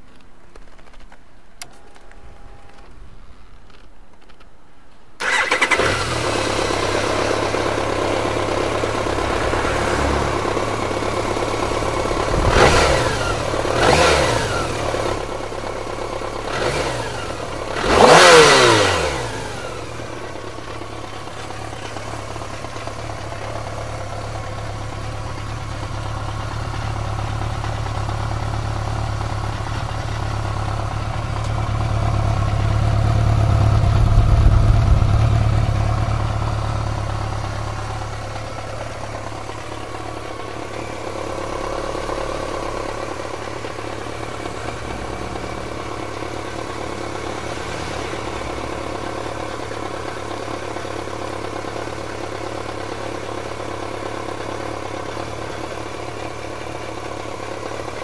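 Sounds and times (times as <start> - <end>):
motorcycle engine starting and idling: 0.1 - 4.6, 5.2 - 58.0.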